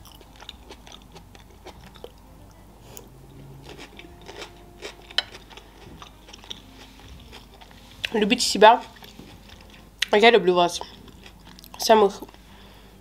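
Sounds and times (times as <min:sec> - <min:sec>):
chewing food: 0:00.0 - 0:12.6.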